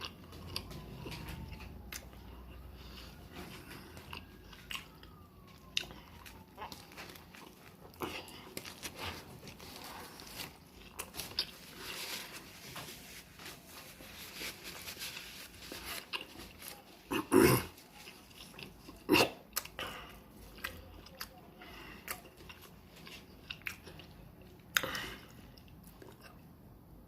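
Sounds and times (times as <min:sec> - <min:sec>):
chewing and biting sandwich: 0:00.0 - 0:26.6.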